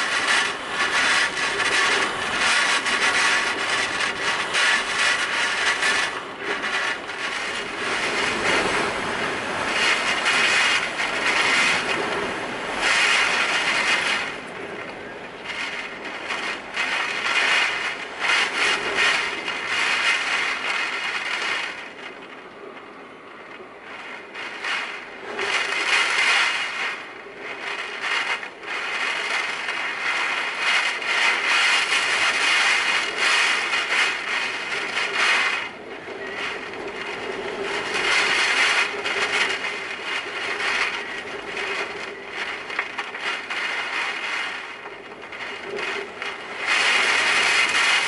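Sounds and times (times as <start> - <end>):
dense crackle: 0.0 - 48.0
driving rain: 0.0 - 48.0
strong gusting wind: 0.0 - 48.0.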